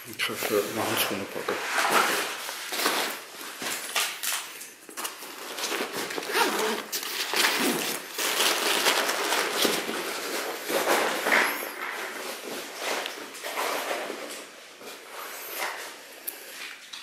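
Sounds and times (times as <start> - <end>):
rustling and crinkling handling noises: 0.0 - 17.0.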